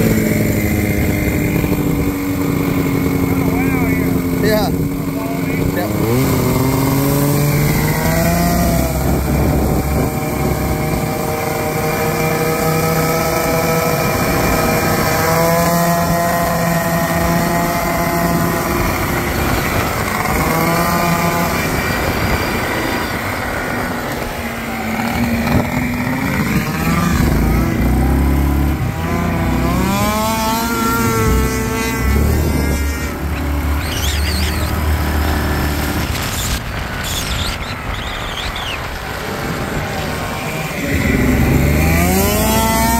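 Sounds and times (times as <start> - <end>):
two-stroke engine revving: 0.0 - 42.9.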